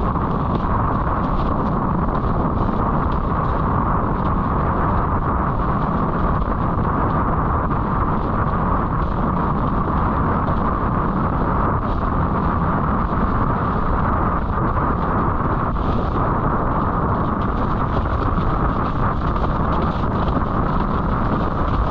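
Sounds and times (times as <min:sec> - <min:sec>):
water rushing under board: 0:00.0 - 0:21.9
wind buffeting microphone: 0:00.0 - 0:21.9.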